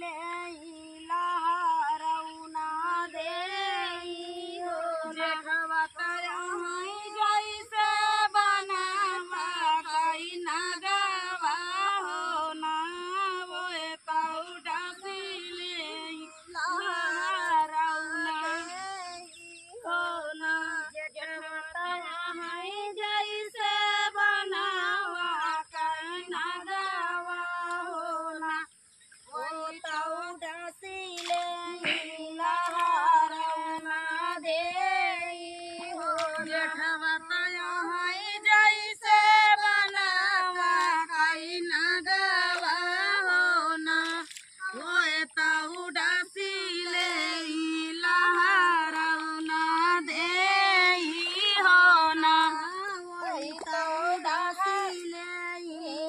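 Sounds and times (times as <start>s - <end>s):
woman singing unaccompanied: 0.0s - 56.0s.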